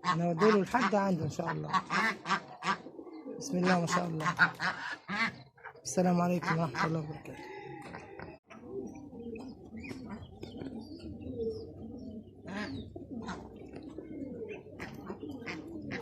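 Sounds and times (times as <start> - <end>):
domestic birds calling: 0.0 - 16.0.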